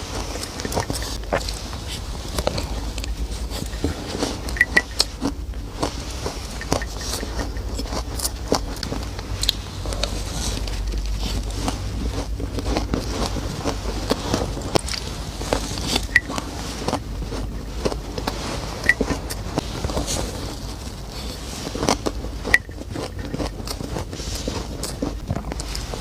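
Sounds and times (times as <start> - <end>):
ice being chewed: 0.0 - 26.0
steady low hum: 0.0 - 26.0.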